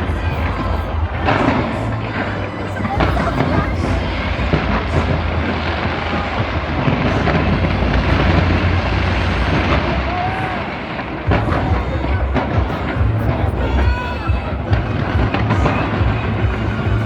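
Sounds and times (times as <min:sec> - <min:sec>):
fireworks bursts rumbling: 0:00.0 - 0:17.0
sharp fireworks bangs: 0:00.0 - 0:17.0
heavy low boom: 0:02.8 - 0:17.0.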